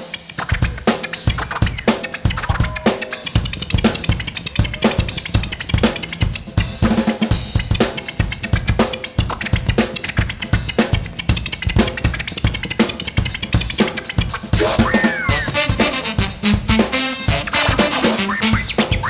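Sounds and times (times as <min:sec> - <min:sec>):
drum kit playing fast groove: 0:00.0 - 0:19.0
jazz-funk band music: 0:00.0 - 0:19.0.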